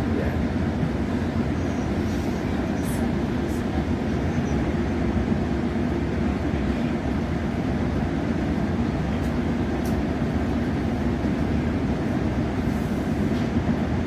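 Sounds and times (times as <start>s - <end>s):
train rumbling inside carriage: 0.0s - 14.0s.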